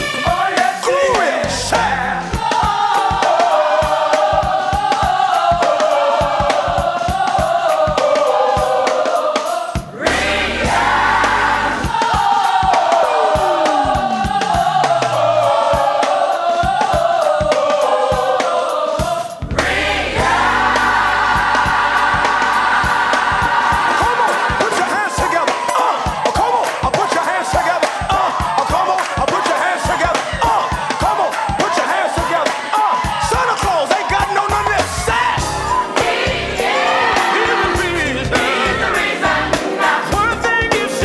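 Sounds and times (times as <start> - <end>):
choir singing gospel: 0.0 - 41.0
instrumental accompaniment with beat: 0.0 - 41.0.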